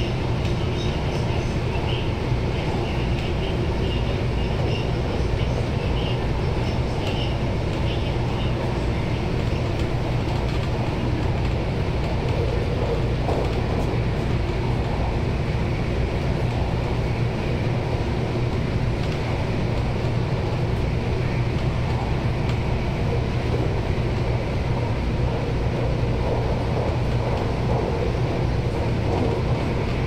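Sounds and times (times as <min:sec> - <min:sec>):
train interior hum and rumble: 0:00.0 - 0:30.0.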